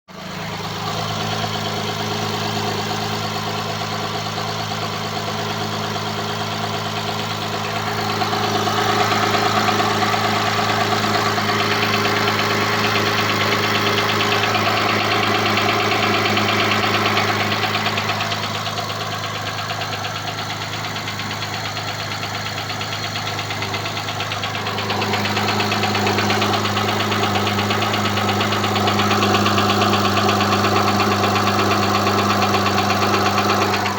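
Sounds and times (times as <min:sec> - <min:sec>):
car engine idling with knock: 0:00.1 - 0:33.9.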